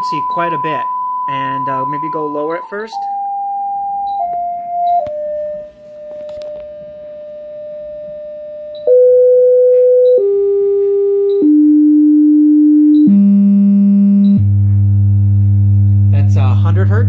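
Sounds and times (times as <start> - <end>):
sine test tone stepping down: 0.0 - 17.0.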